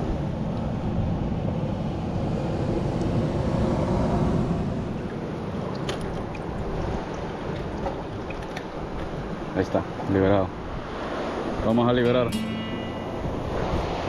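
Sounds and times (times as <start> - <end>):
surf on rocky shore: 0.0 - 14.0
wind buffeting microphone: 0.0 - 14.0.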